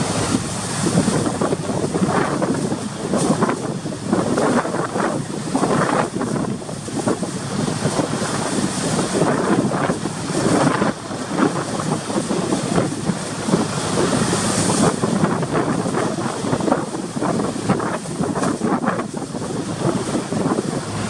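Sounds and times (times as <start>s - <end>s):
rough sea rushing: 0.0s - 21.0s
wind gusting against microphone: 0.0s - 21.0s.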